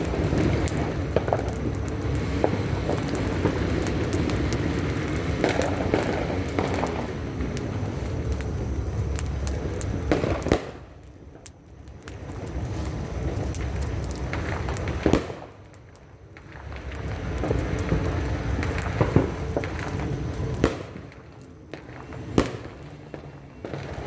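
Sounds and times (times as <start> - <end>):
firecrackers popping: 0.0 - 24.0
low background rumble: 0.0 - 24.0.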